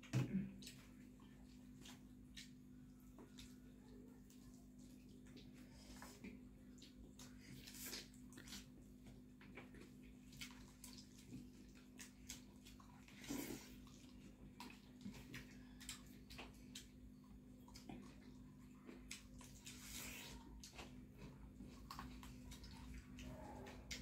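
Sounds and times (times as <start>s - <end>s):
wet chewing and lip smacks: 0.6s - 3.7s, 4.3s - 24.0s.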